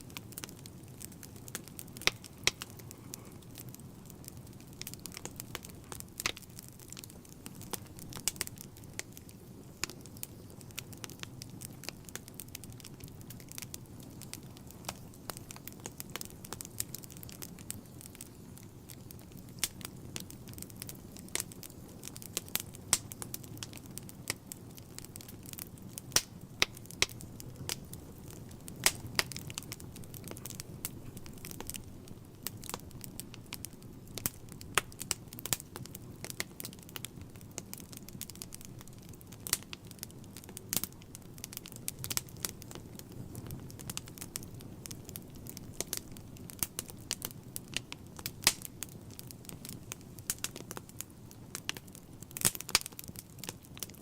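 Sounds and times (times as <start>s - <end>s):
low steady fire rumble: 0.0s - 54.0s
wood fire crackling and popping: 0.0s - 54.0s.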